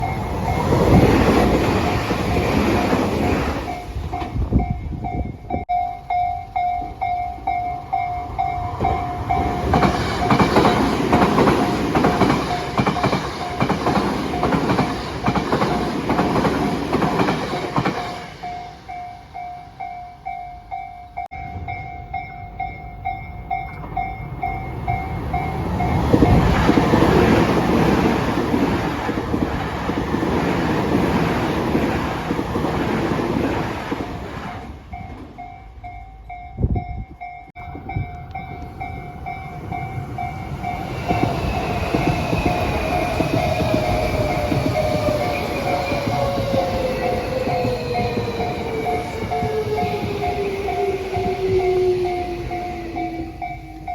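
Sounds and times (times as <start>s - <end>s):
level crossing warning bell: 0.0s - 53.9s
train rumble and wheel clatter: 0.0s - 53.9s.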